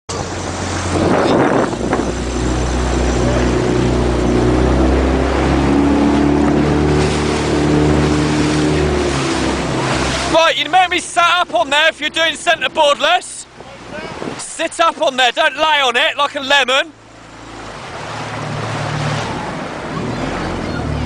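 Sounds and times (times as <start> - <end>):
small motorboat engine: 0.1 - 14.9, 15.5 - 21.0
wind and water rushing: 0.1 - 21.0.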